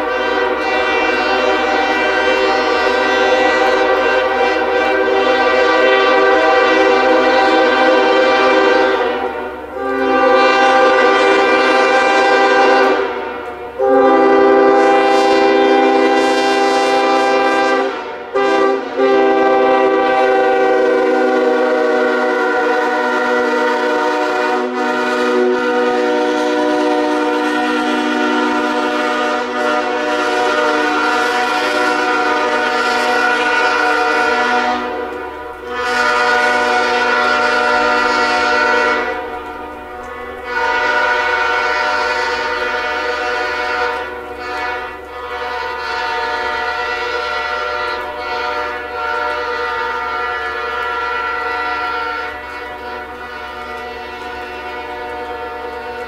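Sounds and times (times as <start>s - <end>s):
locomotive air horn blasts: 0.0s - 56.0s.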